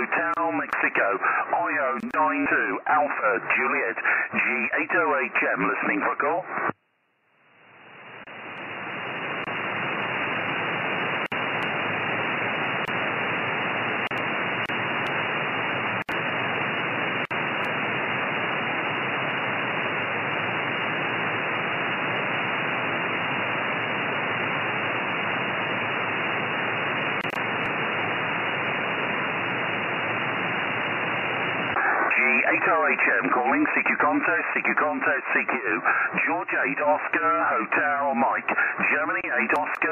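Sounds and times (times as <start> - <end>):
radio receiver hiss: 0.0 - 6.8, 7.6 - 39.9.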